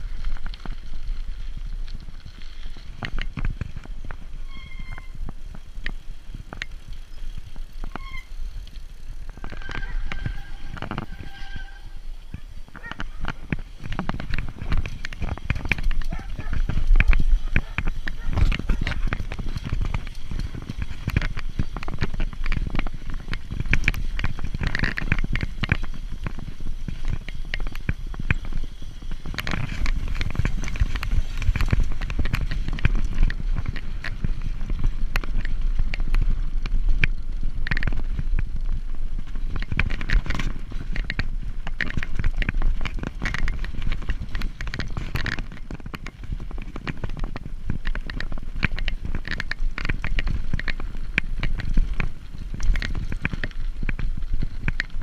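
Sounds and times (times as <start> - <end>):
bike rattling over rough ground: 0.0 - 55.0
wind rumble on microphone: 0.0 - 55.0.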